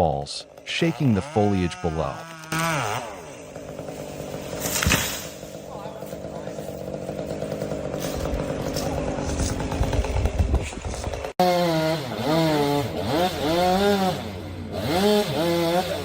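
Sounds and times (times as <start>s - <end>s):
chainsaw revving: 0.0s - 16.0s
chainsaw running: 0.0s - 16.0s.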